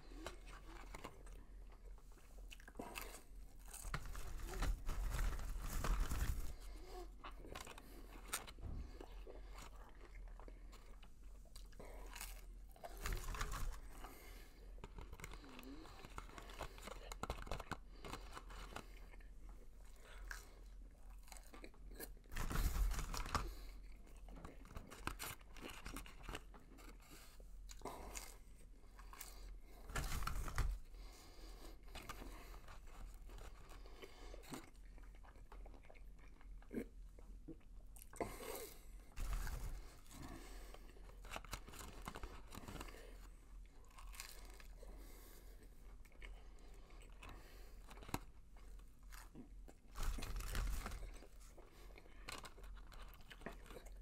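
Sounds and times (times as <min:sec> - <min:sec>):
man chewing and crunching food: 0:00.0 - 0:54.0.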